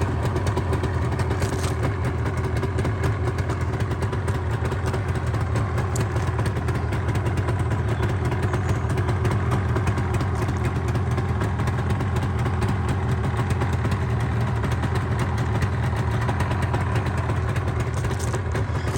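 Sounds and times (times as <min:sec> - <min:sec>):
two-stroke engine idling: 0:00.0 - 0:18.9.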